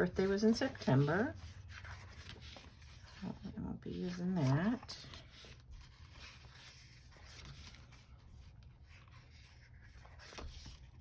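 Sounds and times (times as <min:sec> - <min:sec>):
paper sticker sheets rustling: 0:00.0 - 0:11.0.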